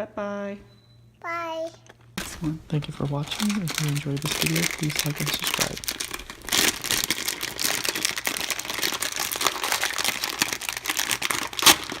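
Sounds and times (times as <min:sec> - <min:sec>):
wrappers crinkling and rustling: 0:02.2 - 0:12.0.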